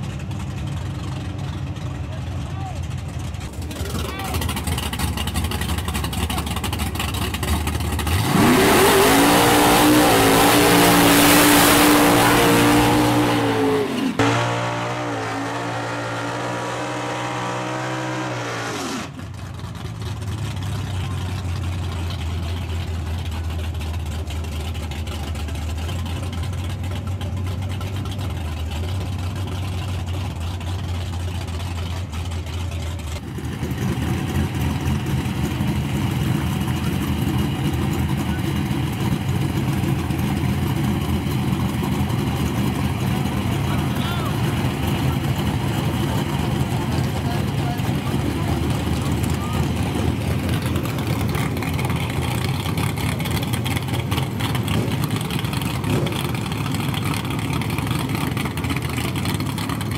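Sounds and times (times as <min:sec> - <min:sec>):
drag car engine revving: 0:00.0 - 0:59.9
tyres spinning in a burnout: 0:00.0 - 0:59.9.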